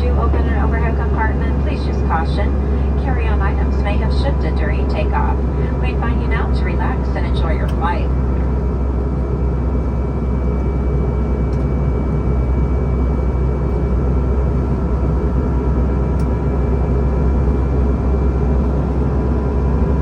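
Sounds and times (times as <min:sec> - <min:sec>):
aircraft engine and airflow rush: 0:00.0 - 0:20.0
faint steady whine: 0:00.0 - 0:20.0.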